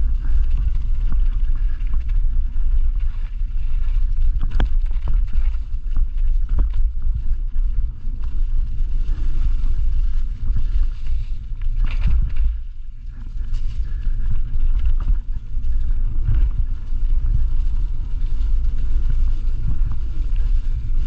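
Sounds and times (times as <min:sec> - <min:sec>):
bike rattles and knocks: 0:00.0 - 0:21.0
tyres crunching over dirt: 0:00.0 - 0:21.0
wind buffeting microphone: 0:00.0 - 0:21.0.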